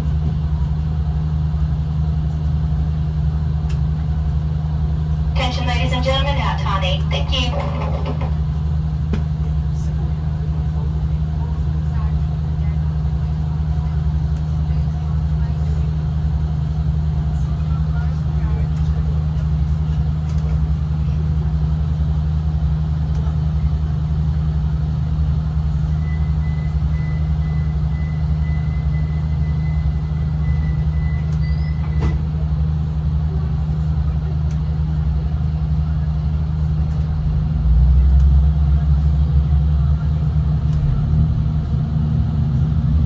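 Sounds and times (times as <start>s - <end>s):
diesel train engine drone: 0.0s - 43.0s
rail and wheel rumble: 0.0s - 43.0s.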